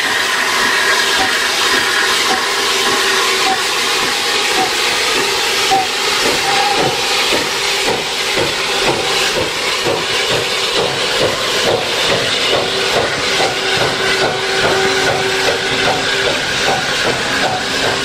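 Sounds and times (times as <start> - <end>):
loud steam hiss: 0.0 - 18.0
steam locomotive exhaust beats: 0.0 - 18.0.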